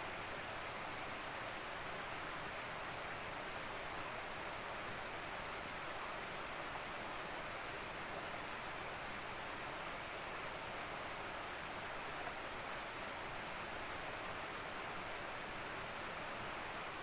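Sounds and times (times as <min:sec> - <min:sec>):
fast-flowing river water: 0:00.0 - 0:17.0.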